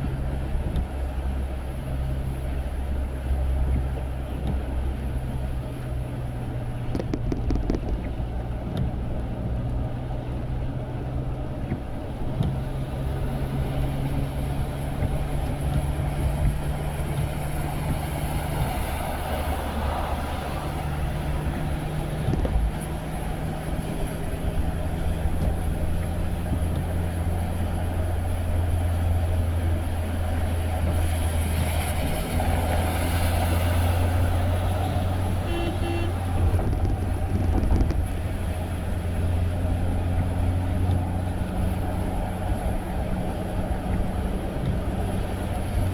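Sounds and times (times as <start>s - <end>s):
car engine hum: 0.0s - 45.9s
road and tyre noise: 0.0s - 45.9s.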